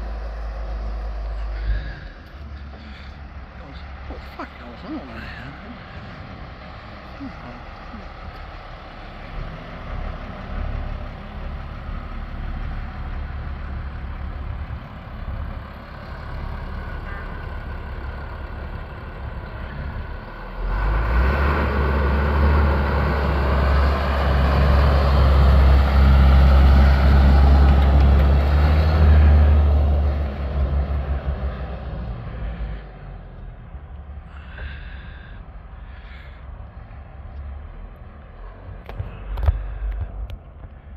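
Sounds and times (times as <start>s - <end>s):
diesel truck driving by: 0.0s - 40.9s.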